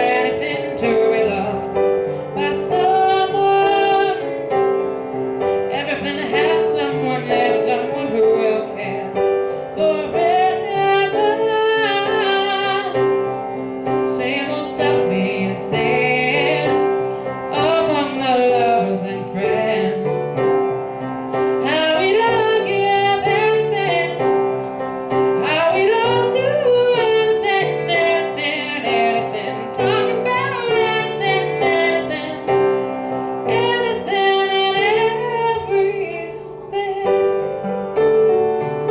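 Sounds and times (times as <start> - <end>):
woman singing pop song: 0.0 - 4.5, 5.6 - 13.2, 14.0 - 20.4, 21.6 - 24.3, 25.4 - 32.6, 33.5 - 37.5
piano accompaniment: 0.0 - 38.9.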